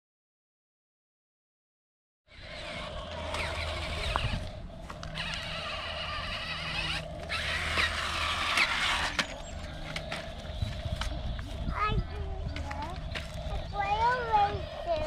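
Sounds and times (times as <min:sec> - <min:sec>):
toy electric motor whirring: 0:02.3 - 0:15.0.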